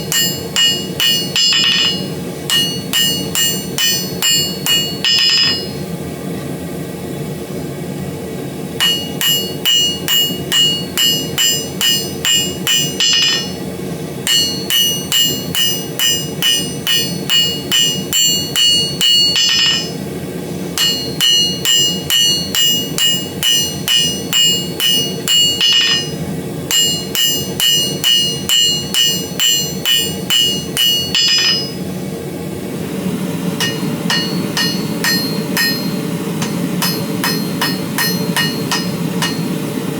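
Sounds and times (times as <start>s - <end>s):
hammer striking steel on anvil: 0.0s - 5.9s, 8.8s - 20.1s, 20.8s - 32.0s, 33.5s - 39.9s.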